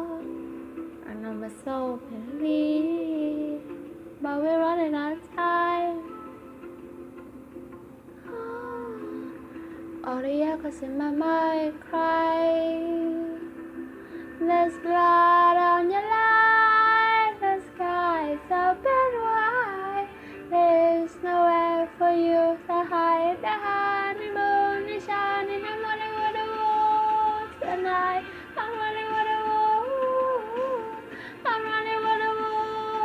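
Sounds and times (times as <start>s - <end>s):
girl singing: 0.0s - 0.4s, 1.0s - 6.2s, 8.2s - 9.3s, 10.0s - 13.5s, 14.4s - 33.0s.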